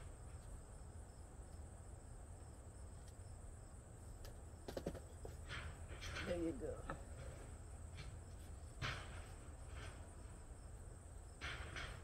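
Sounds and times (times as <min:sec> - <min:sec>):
insect chirping: 0:00.0 - 0:06.3, 0:06.9 - 0:12.0.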